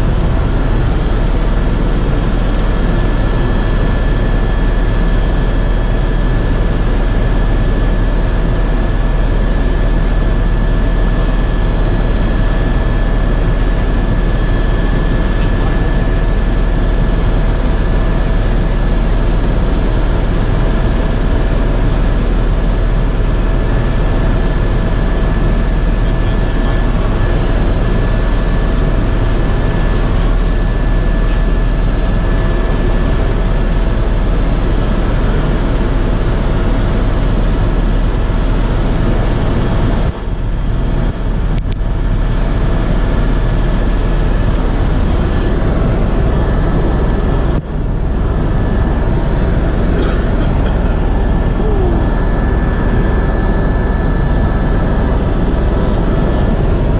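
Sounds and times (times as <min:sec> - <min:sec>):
helicopter rotor and turbine drone: 0:00.0 - 0:56.9
thin steady whine tones: 0:00.0 - 0:56.9.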